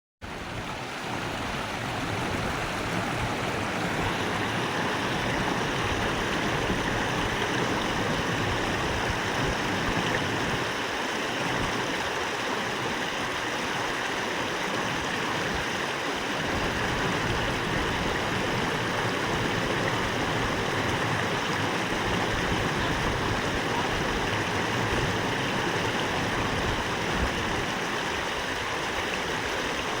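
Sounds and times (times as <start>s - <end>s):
small waterfall splashing: 0.2s - 30.0s.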